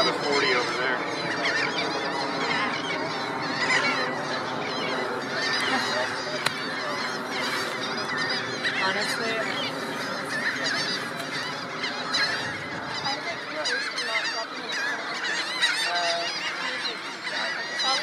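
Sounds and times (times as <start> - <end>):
chorus of seabird calls: 0.0 - 18.0.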